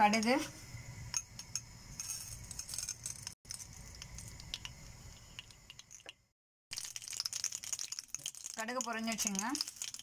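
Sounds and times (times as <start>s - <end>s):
seeds sizzling and popping in oil: 0.0s - 10.0s.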